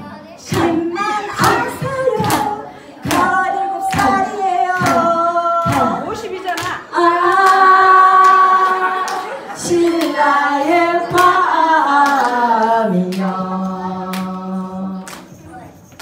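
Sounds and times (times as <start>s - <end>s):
women singing in harmony: 0.4s - 15.2s.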